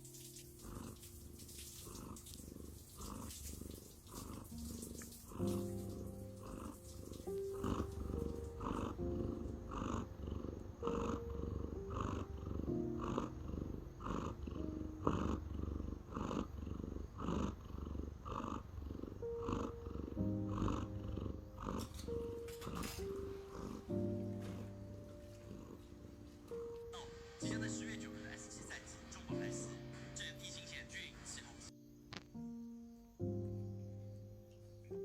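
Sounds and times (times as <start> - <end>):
cat purring: 0.0 - 32.3
soft background music: 0.0 - 35.0.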